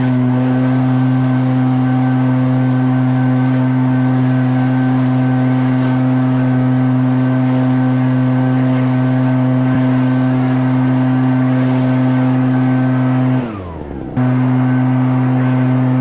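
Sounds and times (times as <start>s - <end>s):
leaf blower engine running: 0.0s - 16.0s.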